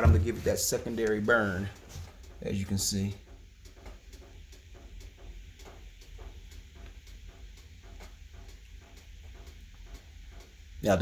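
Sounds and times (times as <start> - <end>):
light ticks of fire: 0.0 - 10.9
wood fire rumbling: 0.0 - 11.0.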